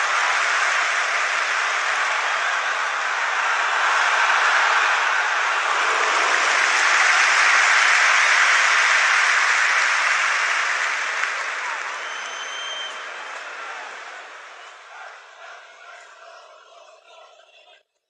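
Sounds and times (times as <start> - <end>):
crowd roar: 0.0 - 17.9.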